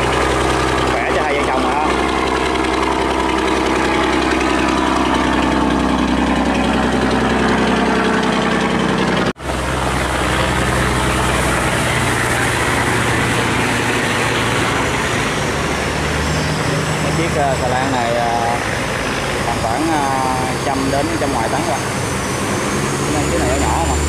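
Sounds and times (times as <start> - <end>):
boat engines running: 0.0 - 24.0.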